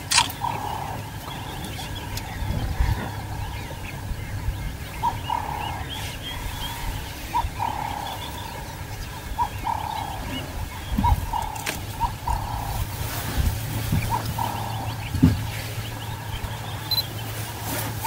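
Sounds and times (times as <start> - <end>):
faint birds chirping: 0.0 - 18.0
steady low rumble: 0.0 - 18.0.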